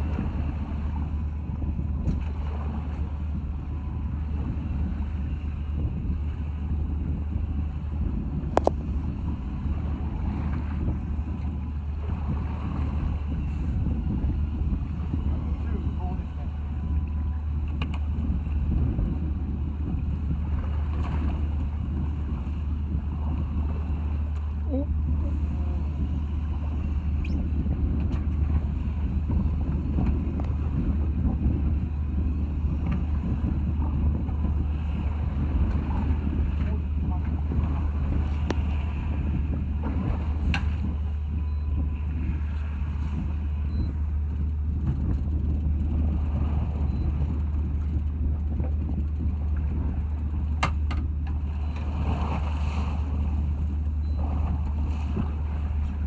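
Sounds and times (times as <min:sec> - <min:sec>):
boat engine humming: 0:00.0 - 0:56.0
wind noise: 0:00.0 - 0:56.0.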